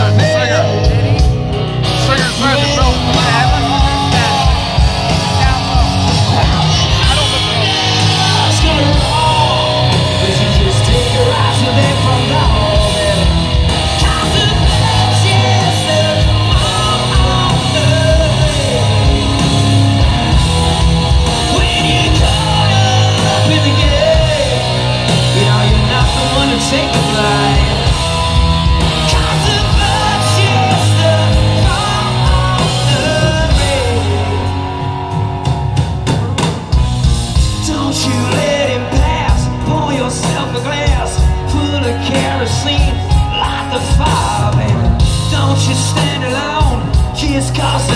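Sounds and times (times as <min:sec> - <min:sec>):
man singing: 0:00.0 - 0:35.0, 0:37.4 - 0:47.9
live rock band playing: 0:00.0 - 0:47.9.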